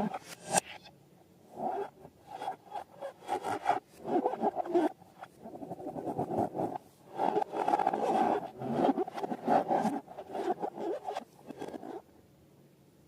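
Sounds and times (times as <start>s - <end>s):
rubbing and scraping balloons: 1.6s - 12.1s.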